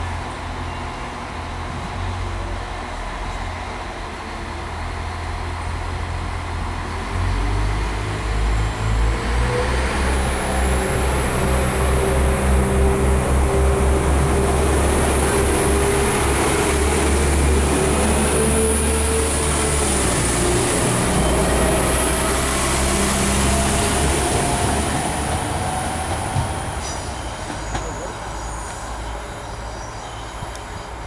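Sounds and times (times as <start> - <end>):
diesel train engine rumble: 0.0 - 31.0
train whine rising: 0.1 - 31.0.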